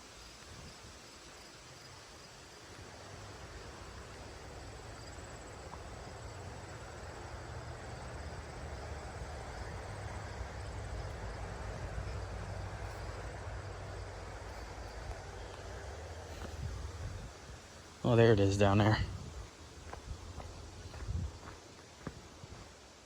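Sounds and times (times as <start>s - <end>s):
faint high insect trill: 0.0s - 23.0s
flowing creek rushing: 2.1s - 23.0s.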